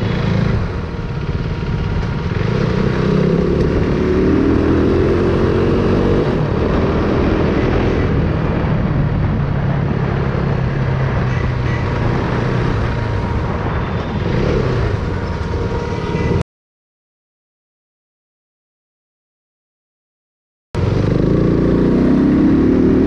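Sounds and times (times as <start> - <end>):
motorcycle engine running: 0.0 - 16.4, 20.8 - 23.0.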